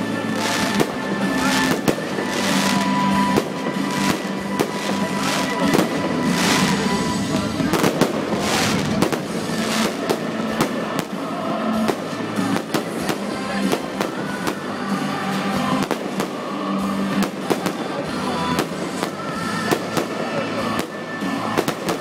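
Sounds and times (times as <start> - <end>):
fireworks bangs and crackles: 0.0 - 22.0
music: 0.0 - 22.0.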